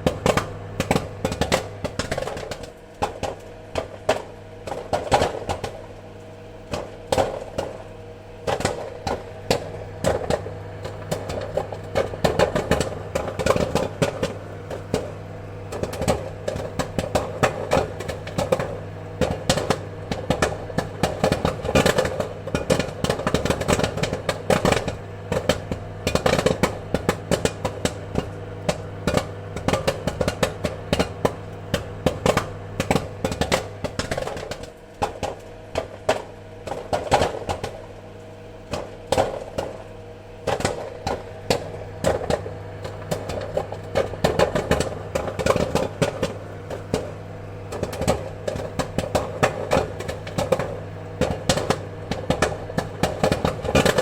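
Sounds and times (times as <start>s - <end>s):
popcorn popping: 0.0s - 54.0s.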